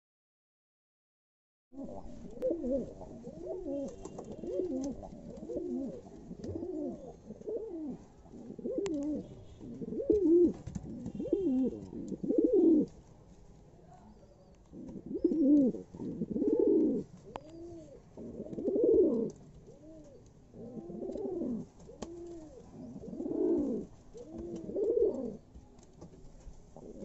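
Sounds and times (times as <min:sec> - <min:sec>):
pigeons cooing: 0:01.8 - 0:12.9, 0:14.7 - 0:25.4, 0:26.8 - 0:27.0.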